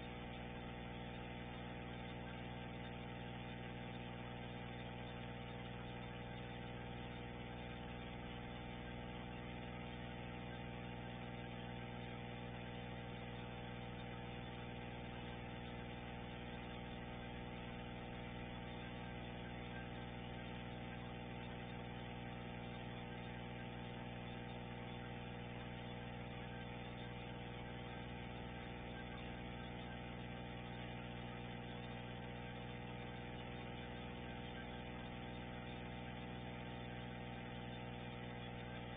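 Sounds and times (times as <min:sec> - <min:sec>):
steady hum with overtones: 0:00.0 - 0:38.9.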